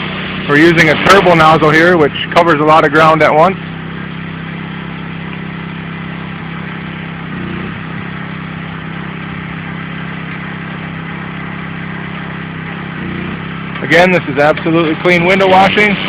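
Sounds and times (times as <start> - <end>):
gas engine running: 0.0 - 16.0.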